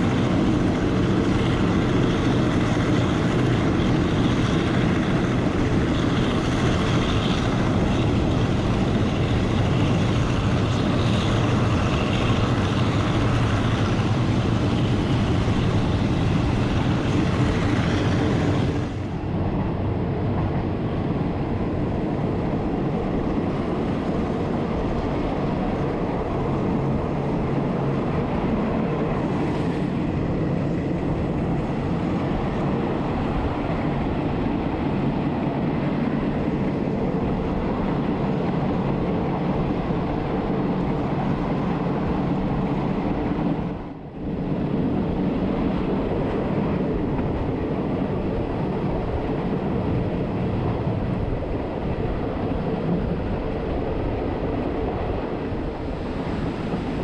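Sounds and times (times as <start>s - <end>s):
passenger train rumbling: 0.0s - 57.0s
wind and rail noise: 0.0s - 57.0s.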